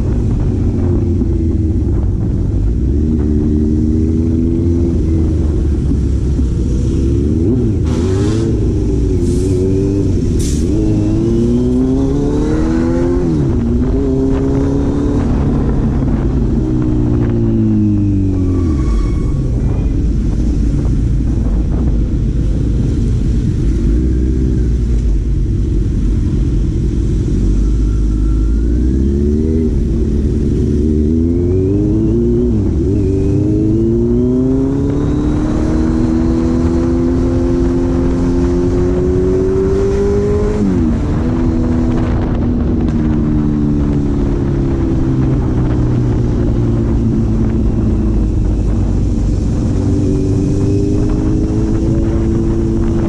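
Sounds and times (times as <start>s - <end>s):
car engine pulling through gears: 0.0s - 53.0s.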